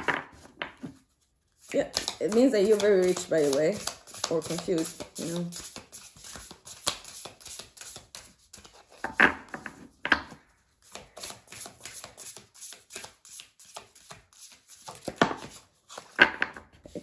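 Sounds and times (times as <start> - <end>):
cards being shuffled: 0.8 - 9.0, 10.8 - 16.2.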